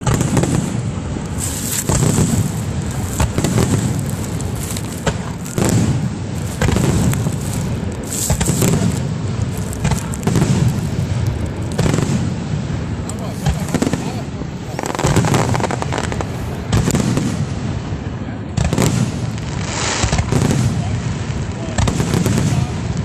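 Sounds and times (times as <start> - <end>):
fireworks booming and popping: 0.0 - 23.0.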